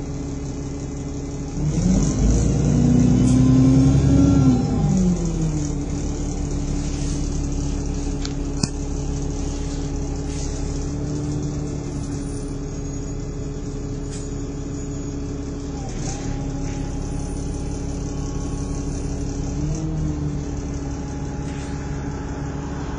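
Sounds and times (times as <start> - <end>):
bus diesel engine running: 0.0 - 22.9.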